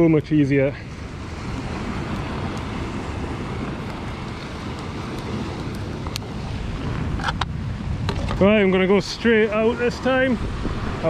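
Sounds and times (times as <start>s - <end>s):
sea surf washing over rocks: 0.0s - 11.0s
wind buffeting microphone: 0.0s - 11.0s.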